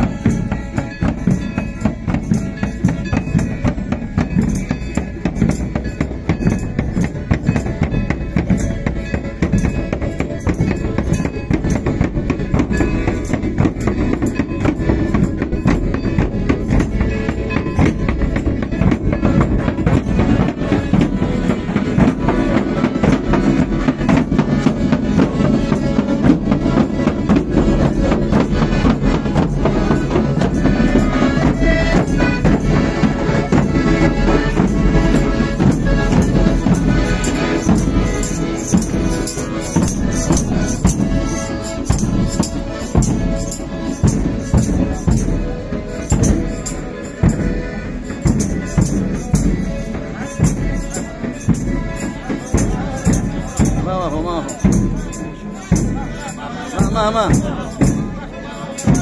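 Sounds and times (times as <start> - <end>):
bass drums: 0.0 - 49.8
accordion: 0.0 - 59.0
tambourines jingling: 0.0 - 59.0.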